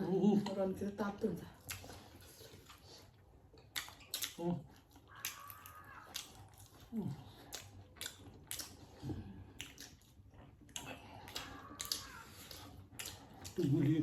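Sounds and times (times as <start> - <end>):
chewing with wet mouth smacks: 0.4 - 14.0.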